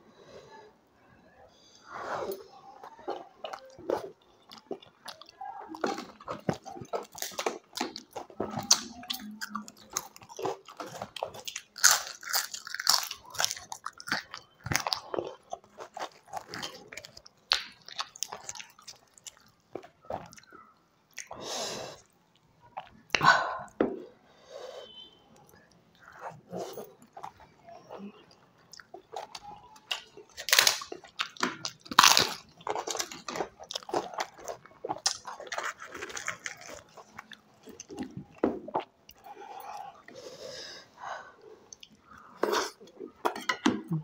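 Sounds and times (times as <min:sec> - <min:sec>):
person crunching and chewing food: 0:02.4 - 0:23.8, 0:24.8 - 0:40.4, 0:41.6 - 0:44.0.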